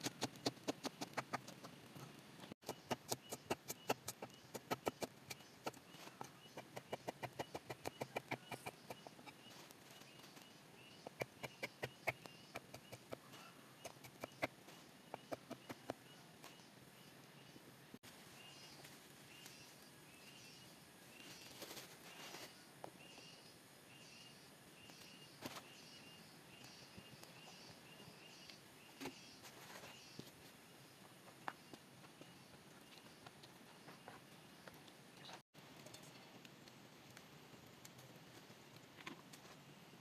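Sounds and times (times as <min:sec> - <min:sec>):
birds chirping: 0:00.2 - 0:36.2.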